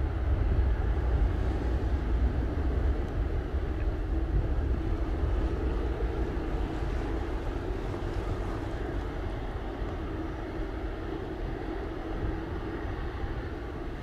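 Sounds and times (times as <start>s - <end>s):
distant jet airliner taking off: 0.0s - 14.0s.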